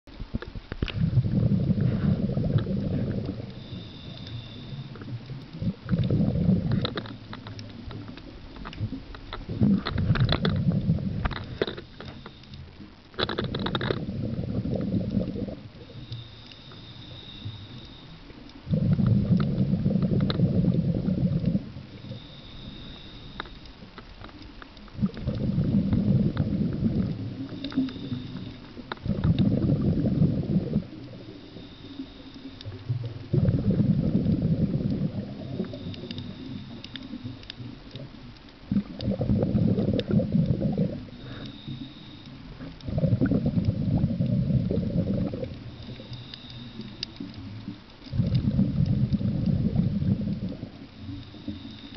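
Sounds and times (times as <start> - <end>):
underwater exhaled bubbles rumbling: 0.1 - 51.9.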